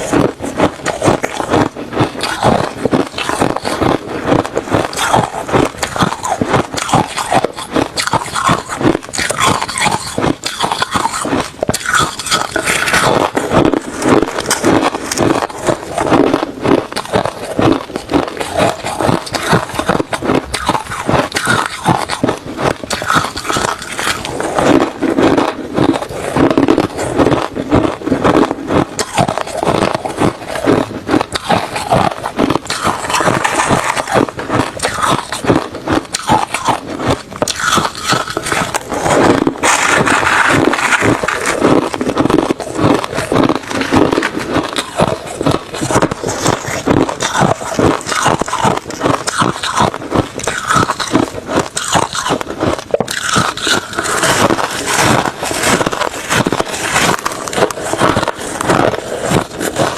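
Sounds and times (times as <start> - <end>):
chewing crushed ice: 0.0 - 59.9.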